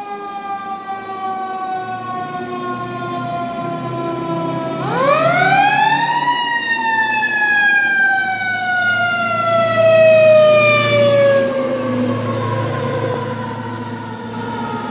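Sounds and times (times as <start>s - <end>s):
fire truck siren: 0.0s - 14.9s
truck engine rumbling: 1.3s - 14.9s.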